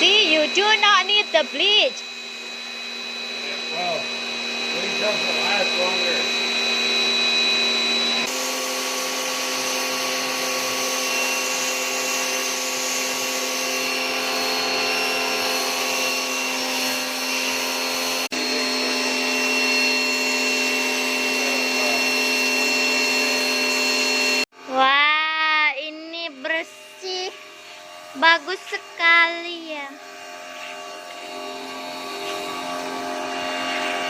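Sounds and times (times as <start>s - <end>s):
pressure washer motor whine: 0.0s - 34.0s.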